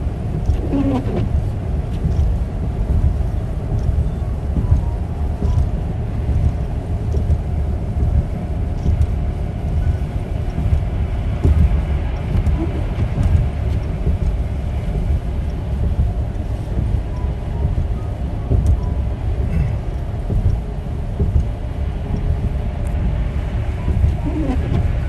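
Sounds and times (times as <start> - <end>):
vehicle engine rumble: 0.0 - 25.0
faint ticks: 1.9 - 23.2.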